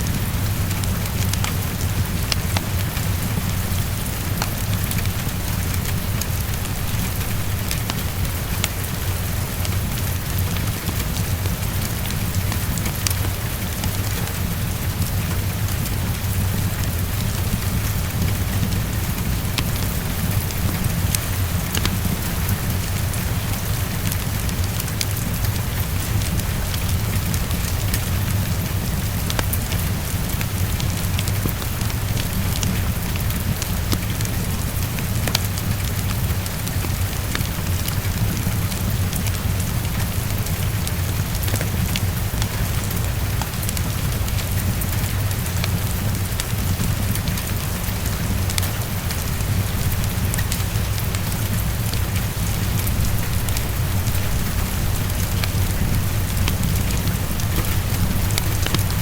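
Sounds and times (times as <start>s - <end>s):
heavy rain on a window: 0.0s - 59.0s
wood fire crackling: 0.0s - 59.0s.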